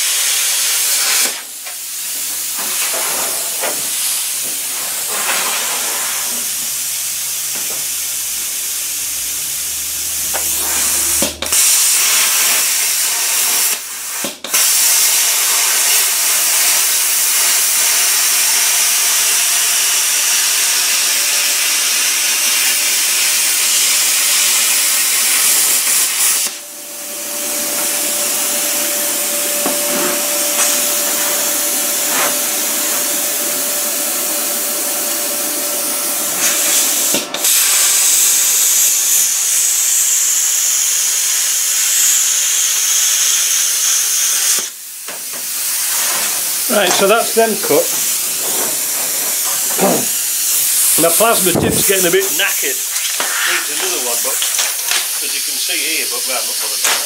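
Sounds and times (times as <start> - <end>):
plasma cutter hissing: 0.0 - 57.0.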